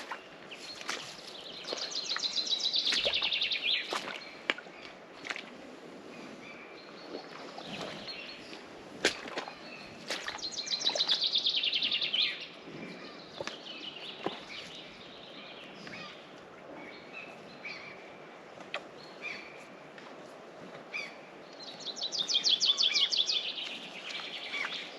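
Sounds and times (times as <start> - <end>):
songbirds calling and singing: 0.0 - 24.9.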